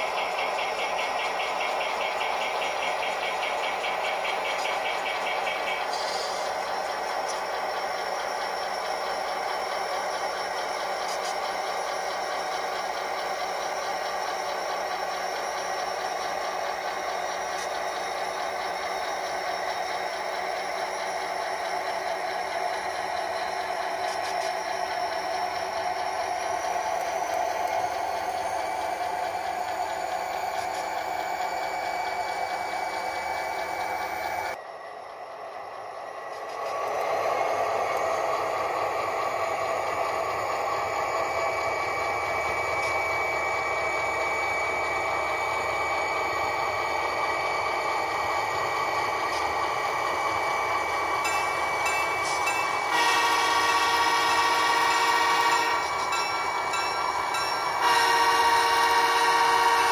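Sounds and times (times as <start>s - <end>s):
model train rolling with rattle: 0.0s - 34.6s, 35.6s - 59.9s.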